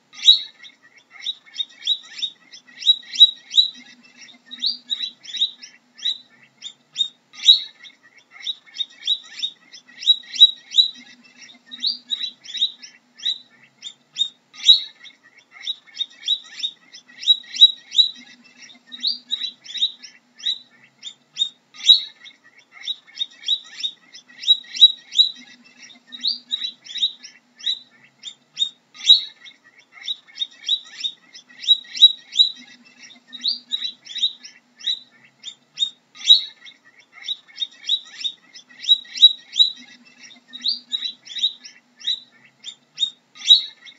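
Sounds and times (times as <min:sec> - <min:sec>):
guinea pigs squeaking: 0:00.2 - 0:43.9.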